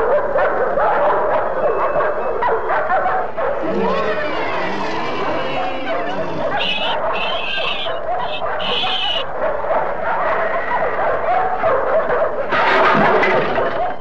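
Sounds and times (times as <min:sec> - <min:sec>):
dogs barking and snarling: 0:00.0 - 0:14.0.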